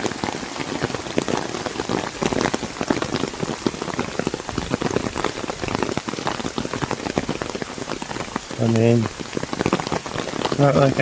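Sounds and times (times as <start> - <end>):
heavy rain pattering: 0.0 - 11.0.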